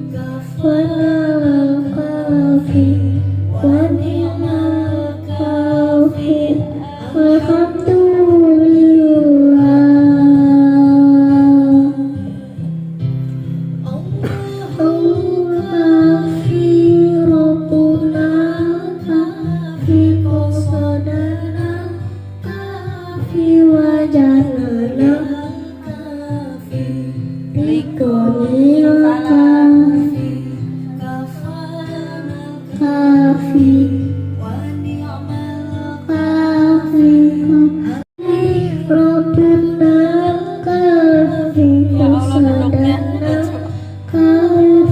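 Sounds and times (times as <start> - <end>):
person singing: 0.0 - 12.8, 13.8 - 44.9
instrumental accompaniment with bass: 0.0 - 44.9.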